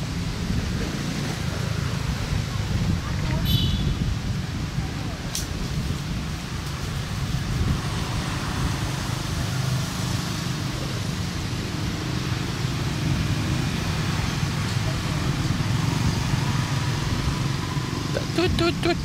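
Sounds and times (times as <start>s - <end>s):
motorbikes passing: 0.0s - 19.0s.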